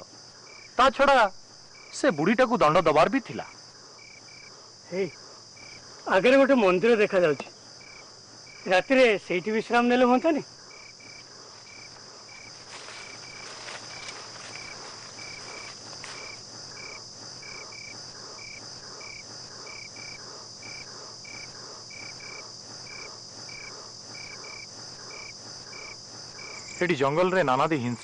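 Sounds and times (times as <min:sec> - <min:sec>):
crickets trilling: 0:00.0 - 0:28.0
short insect chirp: 0:00.0 - 0:28.0.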